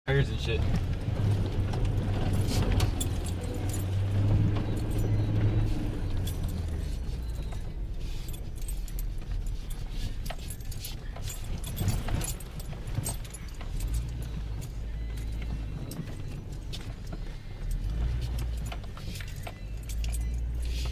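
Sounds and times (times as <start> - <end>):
vehicle engine humming: 0.1 - 20.9
metallic jingling and rattling: 0.2 - 20.9.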